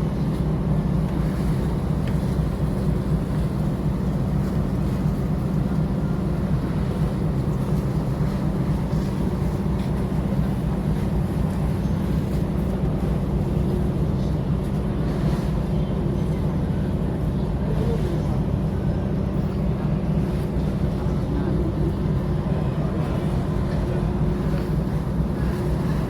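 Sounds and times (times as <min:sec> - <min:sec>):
ferry engines droning: 0:00.0 - 0:26.0.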